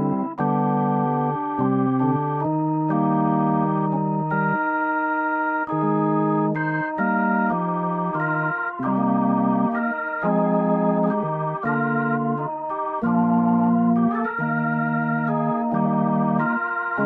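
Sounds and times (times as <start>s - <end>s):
organ playing held chords: 0.0s - 17.0s.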